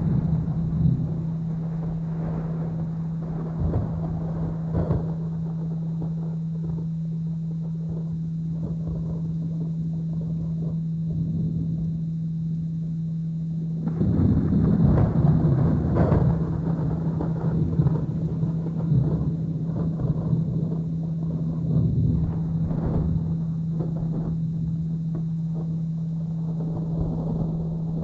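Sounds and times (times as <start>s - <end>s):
rumbling thunder: 0.0s - 11.9s, 13.8s - 28.0s
rain: 0.0s - 28.0s
steady humming tone: 0.0s - 28.0s.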